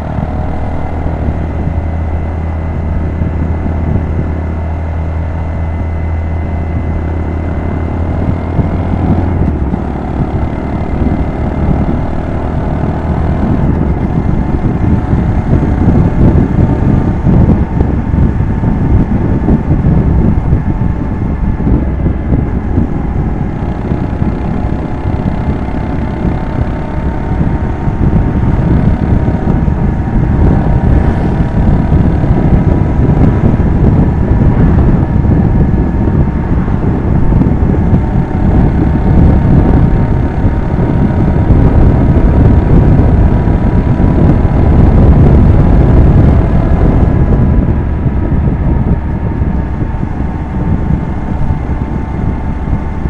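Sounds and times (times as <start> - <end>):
small motorcycle engine running: 0.0 - 53.0.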